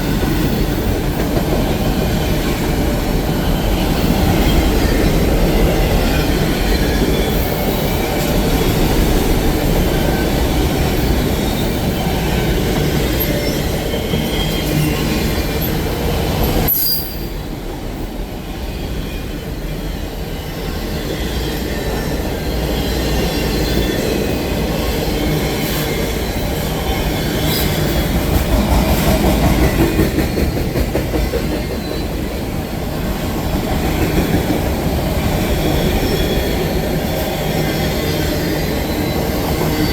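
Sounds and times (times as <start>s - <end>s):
train cars rumbling past: 0.0s - 39.9s
train wheels squealing: 0.0s - 39.9s.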